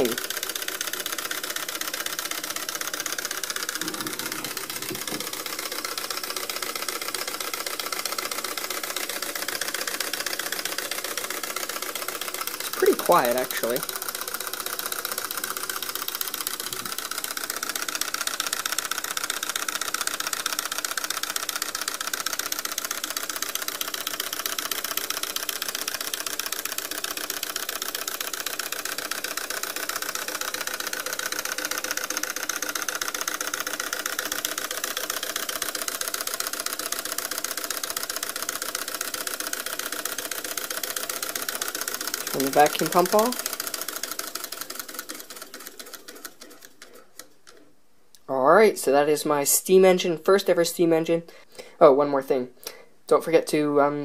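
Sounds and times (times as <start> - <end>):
refrigerator compressor humming: 0.0 - 47.2
small piston engine clattering: 0.0 - 47.7.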